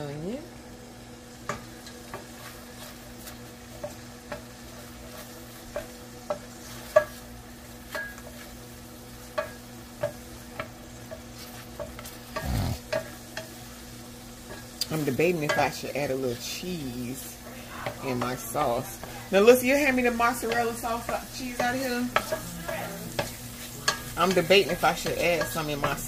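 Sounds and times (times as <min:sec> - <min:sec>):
vegetables sizzling in a pan: 0:00.0 - 0:26.0
spatula tapping and scraping pan: 0:01.4 - 0:26.0.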